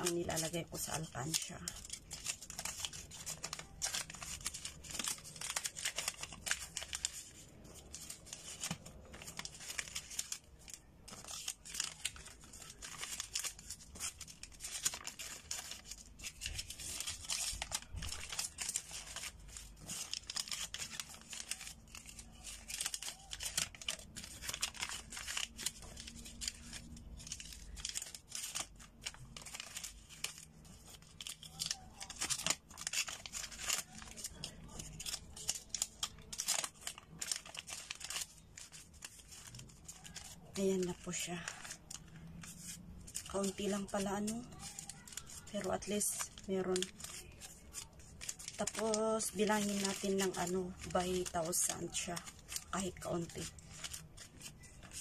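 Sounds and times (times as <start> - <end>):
paper banknotes crinkling: 0.0 - 55.0.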